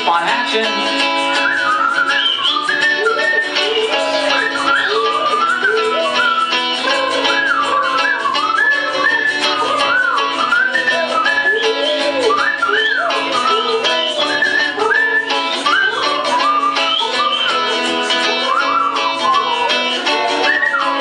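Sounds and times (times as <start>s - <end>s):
guitar strumming: 0.0s - 21.0s.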